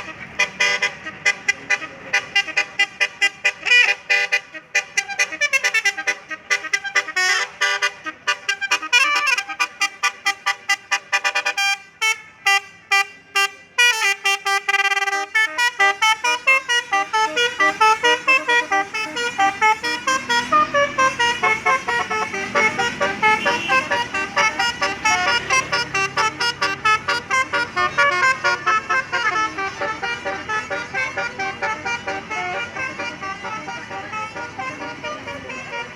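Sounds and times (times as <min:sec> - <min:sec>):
bus engine: 0:00.0 - 0:35.9
musical bus horns playing: 0:00.0 - 0:35.9.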